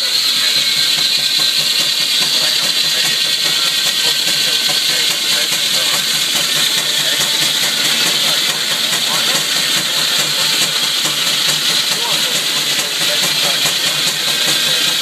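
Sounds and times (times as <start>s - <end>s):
steam engine hissing: 0.0s - 15.0s.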